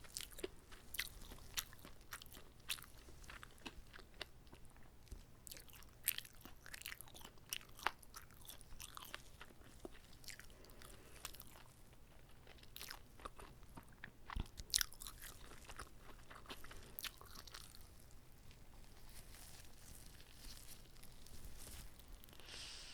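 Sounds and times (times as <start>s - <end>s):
person biting and chewing: 0.0s - 22.4s.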